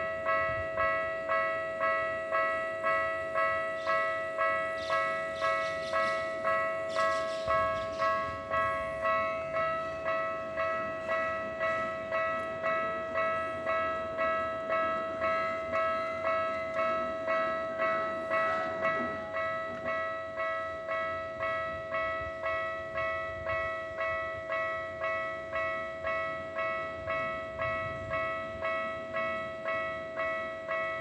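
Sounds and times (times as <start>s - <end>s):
train rushing over rails: 0.0s - 25.2s
level-crossing alarm bell ringing: 0.0s - 31.0s.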